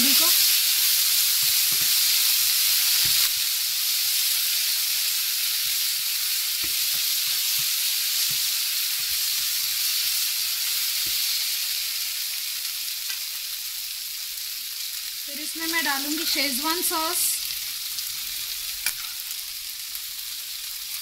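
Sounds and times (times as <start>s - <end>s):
vegetables sizzling in frying pan: 0.0s - 21.0s.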